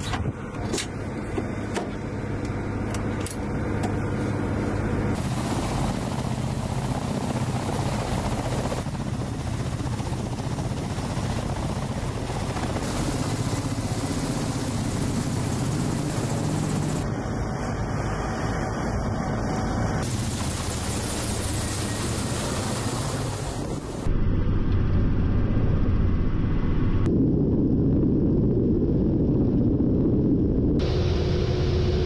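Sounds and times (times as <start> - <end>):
helicopter rotors and engines: 0.0 - 32.0.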